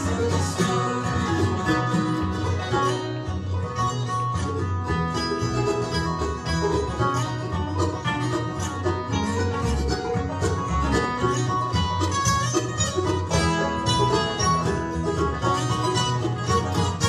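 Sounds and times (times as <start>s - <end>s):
acoustic guitars strumming: 0.0s - 17.0s
banjo fast picking: 0.0s - 17.0s
mandolin: 0.0s - 17.0s.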